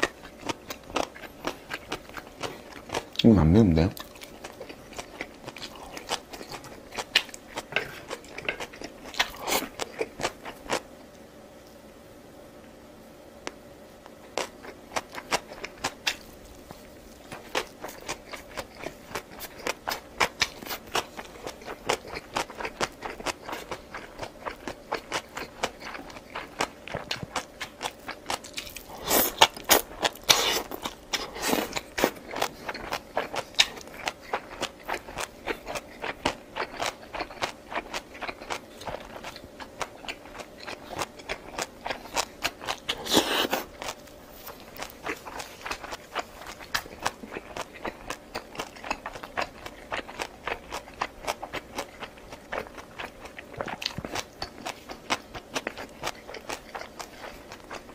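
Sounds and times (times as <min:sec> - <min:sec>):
close chewing sounds: 0:00.0 - 0:11.2, 0:14.1 - 0:57.9.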